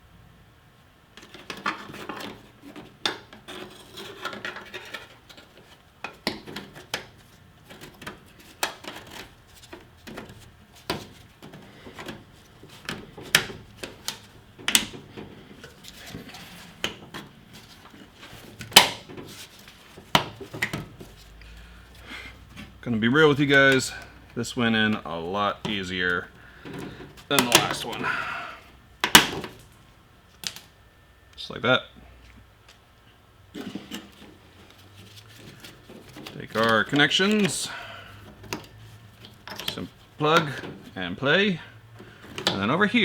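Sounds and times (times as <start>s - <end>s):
hard parts clicking and knocking: 1.2s - 21.5s, 22.4s - 28.4s, 33.5s - 41.0s, 41.9s - 42.8s.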